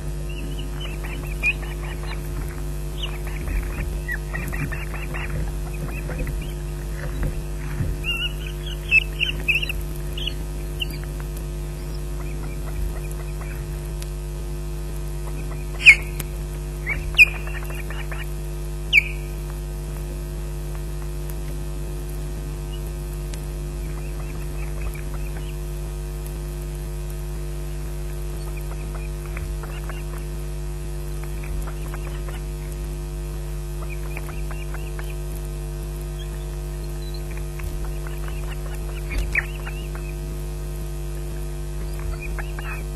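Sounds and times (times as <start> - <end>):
osprey calls: 0.0 - 19.4, 23.8 - 25.7, 27.7 - 35.4, 36.0 - 42.9
electrical hum: 0.0 - 42.9.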